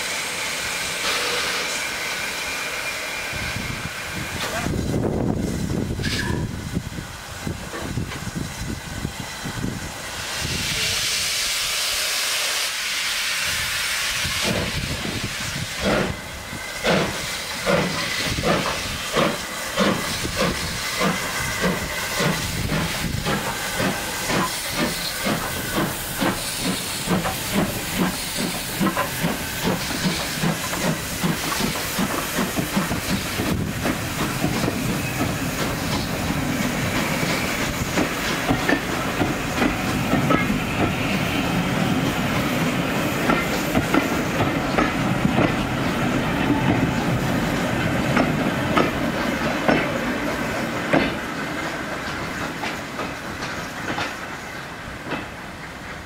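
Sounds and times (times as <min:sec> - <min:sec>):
loud hiss of steam: 0:00.0 - 0:56.0
steam locomotive exhaust beats: 0:00.0 - 0:56.0.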